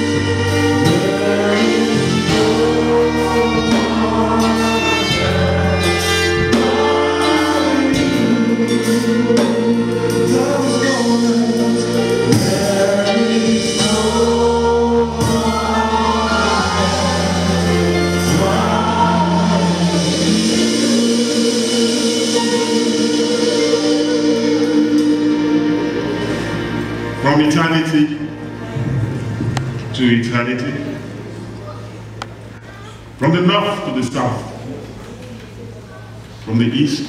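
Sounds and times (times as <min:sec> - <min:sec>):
gospel choir singing: 0:00.0 - 0:32.5
keyboard accompaniment: 0:00.0 - 0:37.0.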